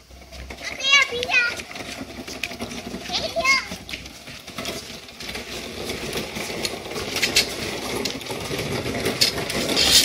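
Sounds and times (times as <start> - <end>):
toy wheels rolling on concrete: 0.0 - 10.0.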